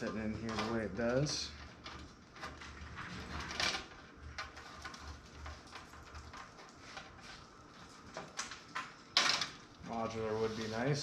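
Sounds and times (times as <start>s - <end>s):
cables rustling: 0.0s - 11.0s.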